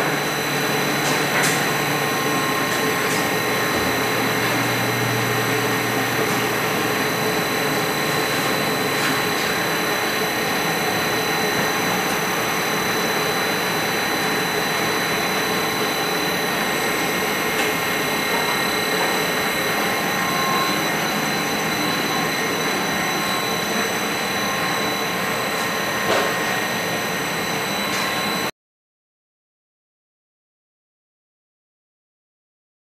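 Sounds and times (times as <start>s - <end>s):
high steady whining tones: 0.0s - 28.5s
machinery hum and hiss: 0.0s - 28.5s.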